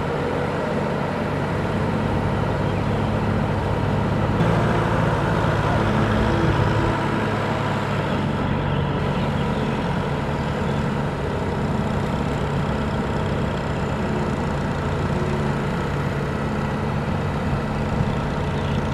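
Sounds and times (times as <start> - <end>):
diesel engine droning: 0.0 - 18.9.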